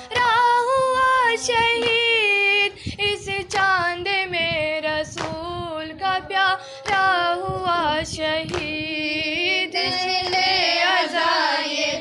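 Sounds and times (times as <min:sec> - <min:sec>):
woman singing a lament: 0:00.0 - 0:11.2.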